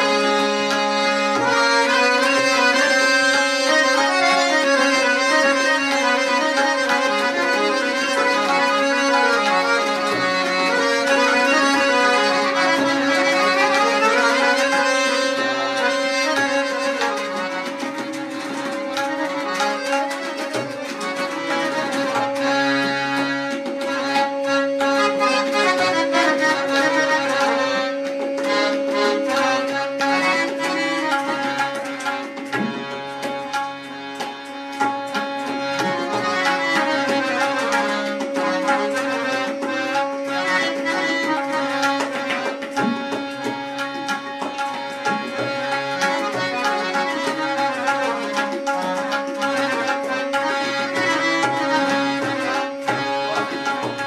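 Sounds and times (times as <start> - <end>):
fast tabla strokes: 0.0 - 54.0
harmonium melody over drone: 0.0 - 54.0.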